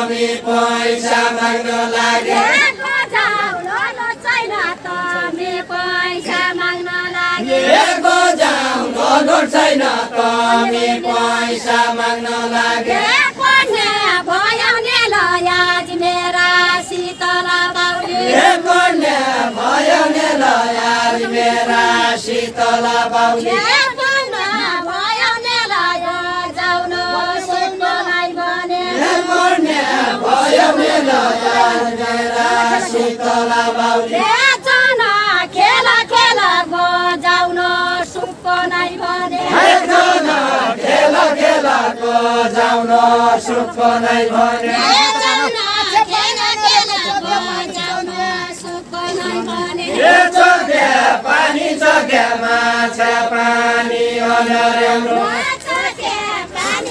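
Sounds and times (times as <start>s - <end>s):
group of voices singing: 0.0s - 56.9s.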